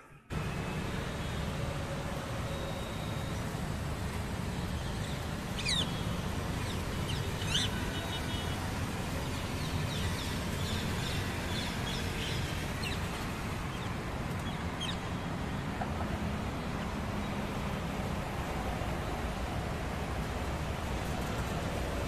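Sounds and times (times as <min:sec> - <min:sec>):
road traffic rumble: 0:00.2 - 0:22.0.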